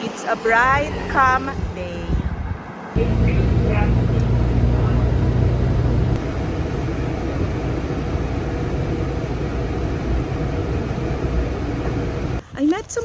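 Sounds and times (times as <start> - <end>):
road vehicle rumble: 0.0 - 12.4.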